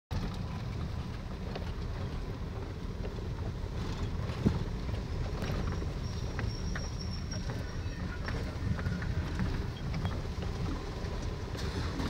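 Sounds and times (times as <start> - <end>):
car engine and road rumble: 0.1 - 12.0.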